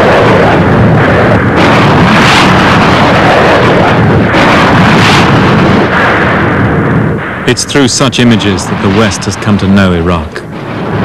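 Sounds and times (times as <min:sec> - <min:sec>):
rumble of explosions: 0:00.0 - 0:11.0.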